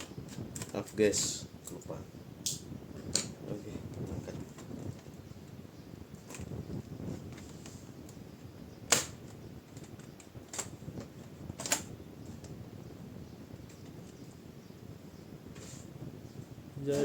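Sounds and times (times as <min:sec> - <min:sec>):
handling noise: 0:02.9 - 0:17.0.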